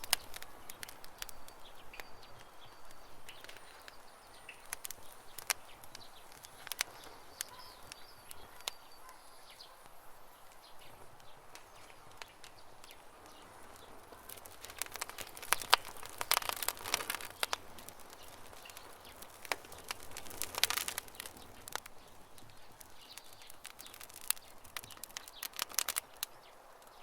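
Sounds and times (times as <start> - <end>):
campfire crackling and popping: 0.0 - 27.0
faint bird chirping: 0.0 - 27.0.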